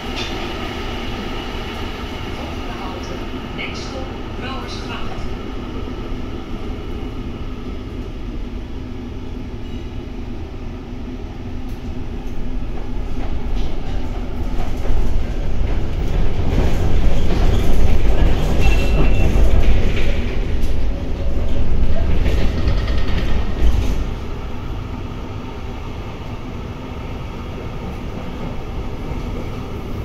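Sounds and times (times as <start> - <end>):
tram wheels rumbling on rails: 0.0 - 30.0.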